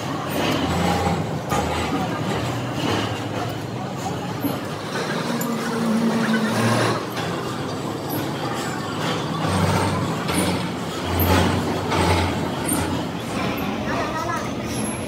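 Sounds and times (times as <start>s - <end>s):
machine shop hum: 0.0s - 15.0s.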